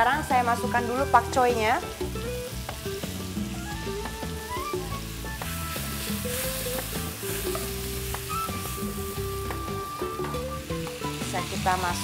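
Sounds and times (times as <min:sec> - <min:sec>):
background music: 0:00.0 - 0:12.0
food sizzling in a wok: 0:00.0 - 0:12.0.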